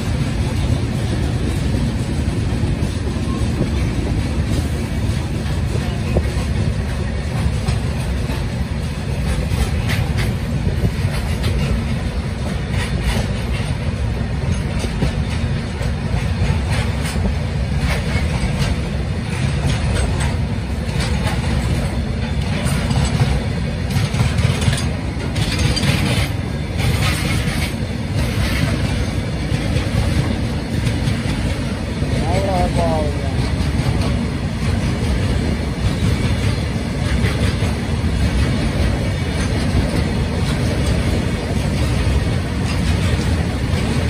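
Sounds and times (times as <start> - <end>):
train wheels rumbling on rails: 0.0 - 44.0
wheels clicking over rail joints: 0.0 - 44.0.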